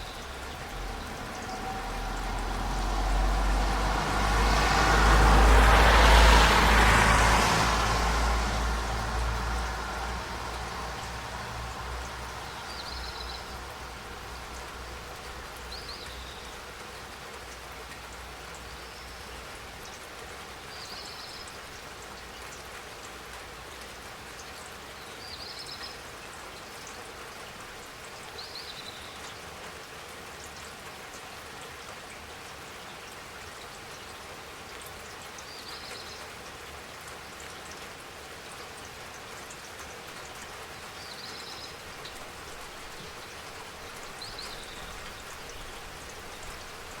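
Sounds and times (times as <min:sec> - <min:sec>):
rain falling: 0:00.0 - 0:47.0.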